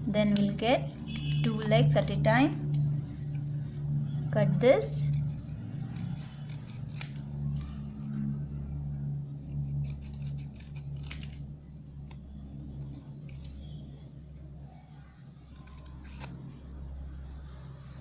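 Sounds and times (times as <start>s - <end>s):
steady low hum: 0.0s - 18.0s
scissors snipping paper: 0.1s - 17.6s.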